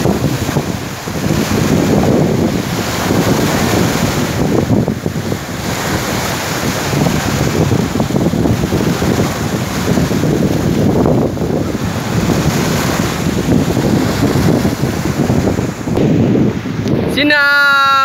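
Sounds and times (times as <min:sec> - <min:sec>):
sea surf breaking: 0:00.0 - 0:18.0
wind buffeting microphone: 0:00.0 - 0:18.0.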